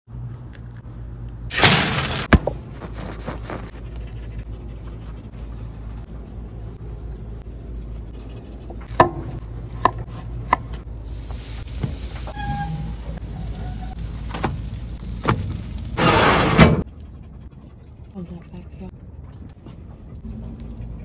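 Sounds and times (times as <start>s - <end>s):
low background hum: 0.1s - 16.0s, 16.6s - 21.0s.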